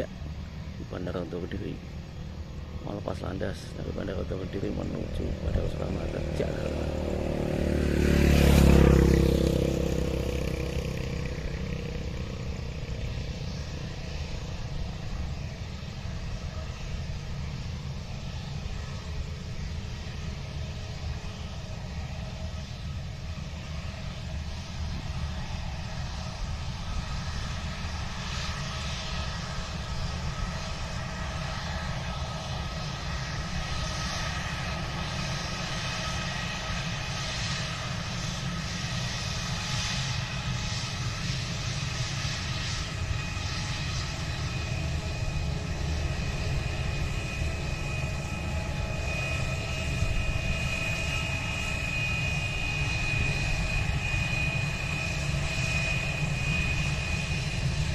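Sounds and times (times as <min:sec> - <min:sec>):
jet engines rumbling and whining: 0:00.0 - 0:57.9.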